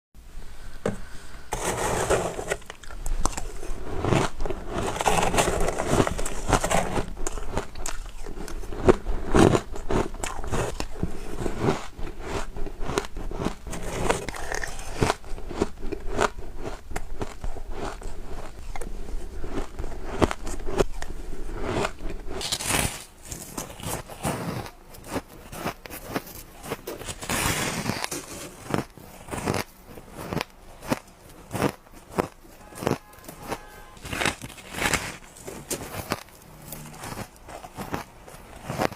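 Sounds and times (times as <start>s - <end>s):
ice crunching and cracking: 1.5s - 38.9s.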